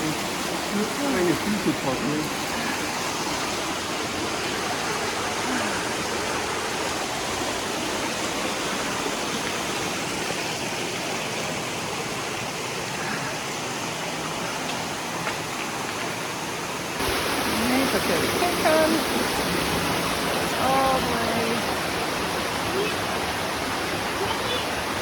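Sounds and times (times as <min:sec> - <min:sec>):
water rushing in stream and waterfall: 0:00.0 - 0:25.0.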